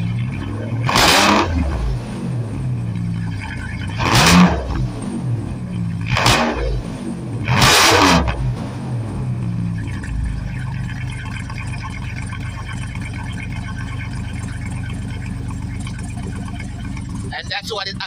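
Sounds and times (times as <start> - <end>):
van engine revving and idling: 0.0 - 18.0.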